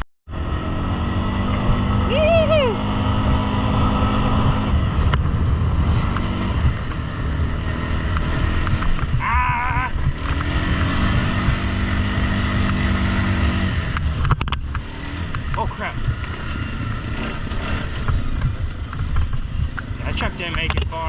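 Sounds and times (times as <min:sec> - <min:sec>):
atv engine running: 0:00.3 - 0:21.0.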